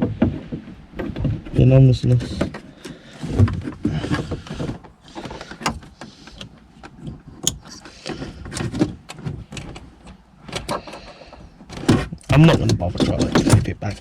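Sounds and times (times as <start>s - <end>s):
plastic clicks and knocks: 2.4s - 14.0s.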